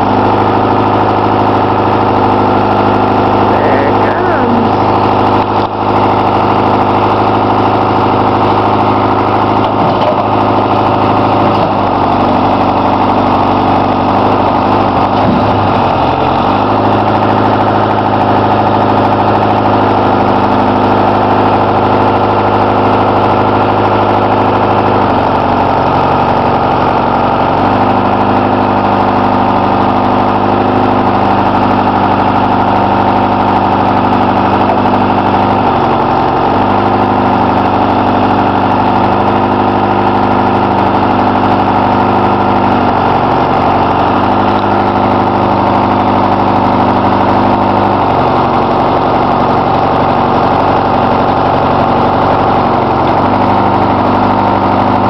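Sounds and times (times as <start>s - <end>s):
forestry machine engine under load: 0.0s - 55.0s.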